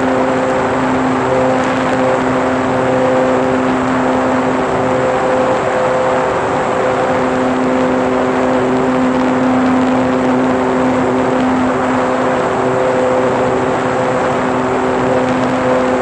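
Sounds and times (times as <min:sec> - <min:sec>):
model airplane motor and propeller: 0:00.0 - 0:16.0.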